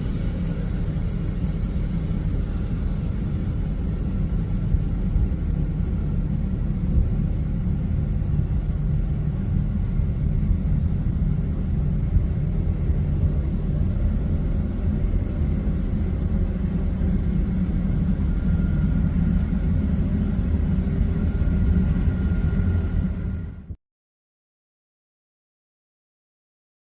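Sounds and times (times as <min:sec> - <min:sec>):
faint high whine: 0:00.0 - 0:23.8
jet engines rumbling: 0:00.0 - 0:23.8.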